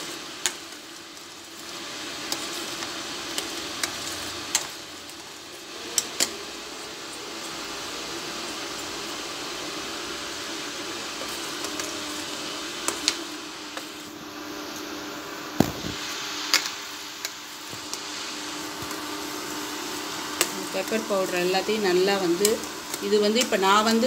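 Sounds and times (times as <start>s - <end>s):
steady humming: 0.0s - 24.0s.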